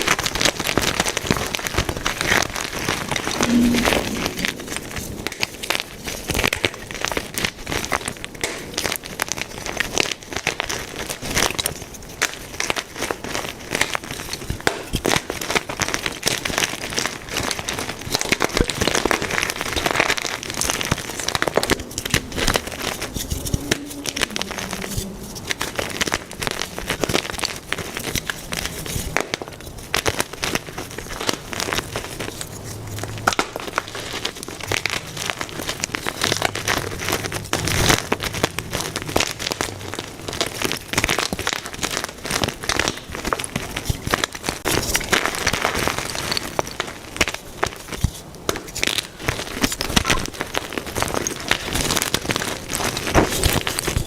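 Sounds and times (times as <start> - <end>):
chalk crunching and crackling: 0.0 - 54.0.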